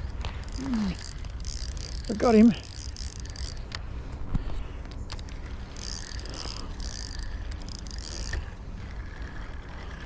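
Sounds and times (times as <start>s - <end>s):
fishing reel ratcheting: 0.0s - 3.8s, 5.1s - 10.0s.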